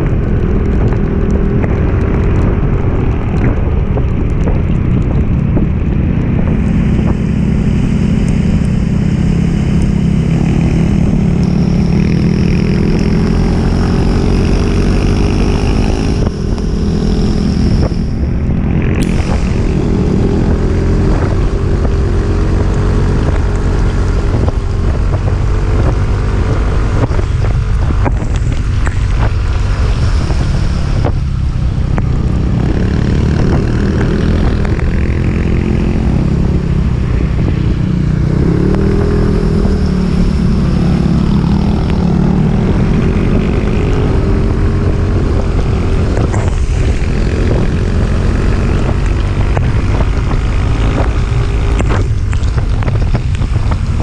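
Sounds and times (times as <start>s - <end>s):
motorcycle engine revving: 0.0s - 54.0s
steady rushing noise: 0.0s - 54.0s.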